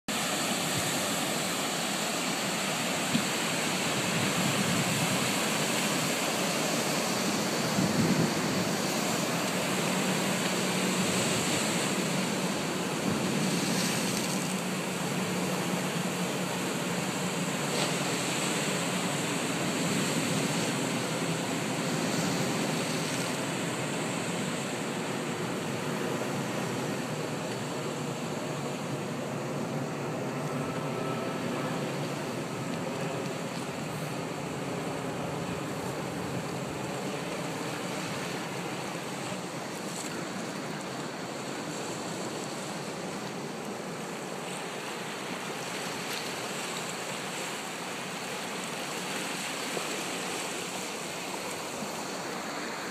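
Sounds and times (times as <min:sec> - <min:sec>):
waves breaking on rocky shore: 0:00.1 - 0:52.9.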